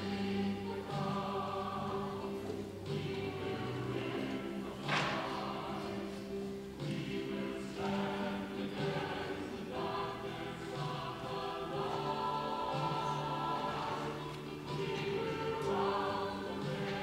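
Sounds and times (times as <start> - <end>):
voices singing a hymn: 0.0 - 17.0.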